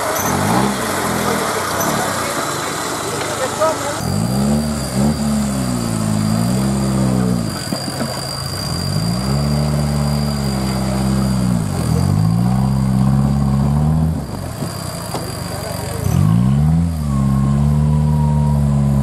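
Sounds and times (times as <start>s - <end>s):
off-road engine revving: 0.0s - 19.0s.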